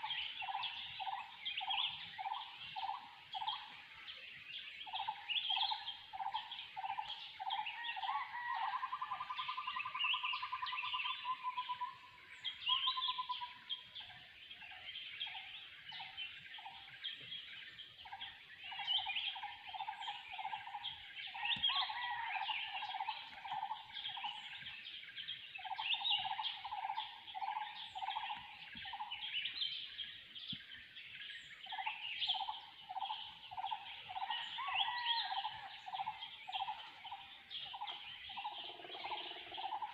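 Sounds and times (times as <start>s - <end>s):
chorus of high bird calls: 0.0s - 39.9s.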